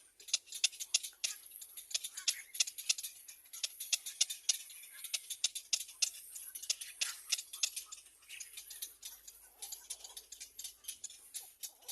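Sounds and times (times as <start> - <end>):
dry clicks of birds preening: 0.0 - 11.9.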